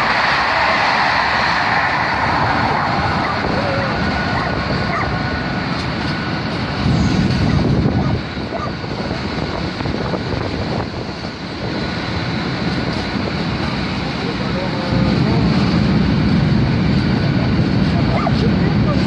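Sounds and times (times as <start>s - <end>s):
train running past: 0.0s - 19.0s.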